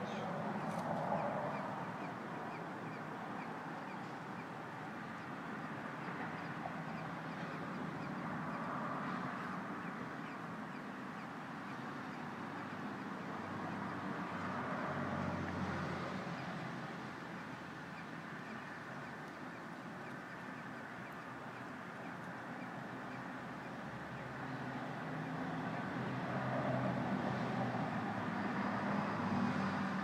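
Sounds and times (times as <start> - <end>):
baby birds cheeping: 0.0 - 27.2.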